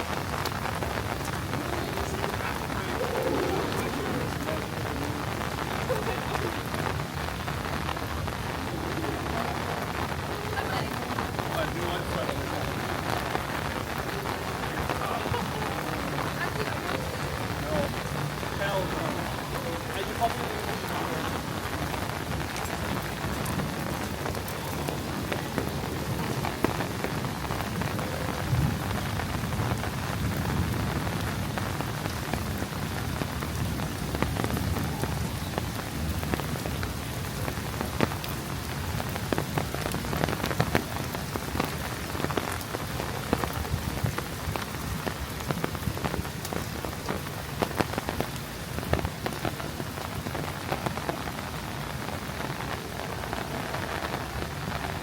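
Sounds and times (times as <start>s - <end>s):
heavy rain downpour: 0.0s - 55.0s
raindrops ticking close by: 0.0s - 55.0s.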